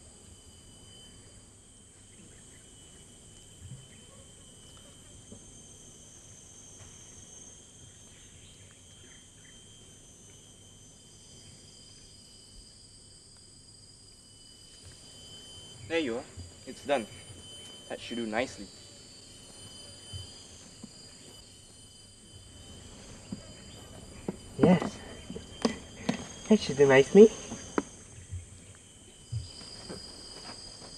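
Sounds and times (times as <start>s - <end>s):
insects chirring: 0.0s - 30.9s.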